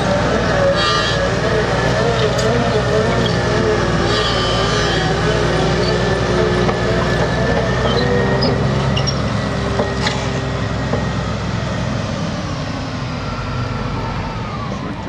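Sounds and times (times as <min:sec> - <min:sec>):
heavy diesel engine under load: 0:00.0 - 0:15.0.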